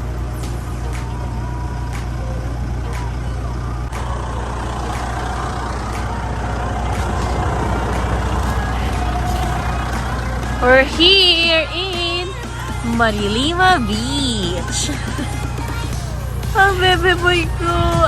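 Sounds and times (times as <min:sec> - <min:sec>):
vehicle engine hum and road noise: 0:00.0 - 0:18.0.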